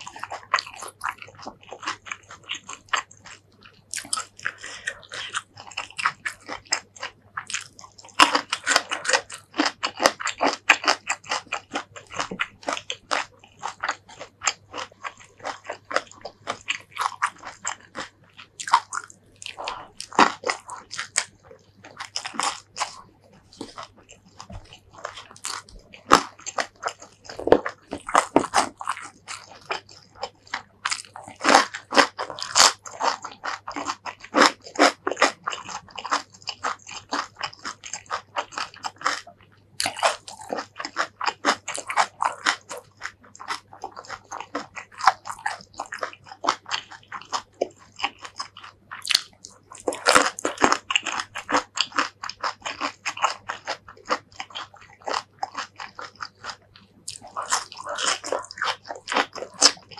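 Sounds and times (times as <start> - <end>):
chewing with crunches: 0.0 - 59.9.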